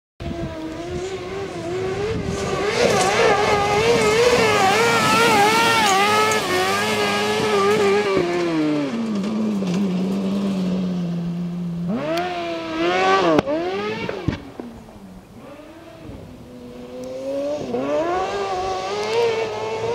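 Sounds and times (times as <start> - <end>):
motorcycle engine revving: 0.2 - 19.9.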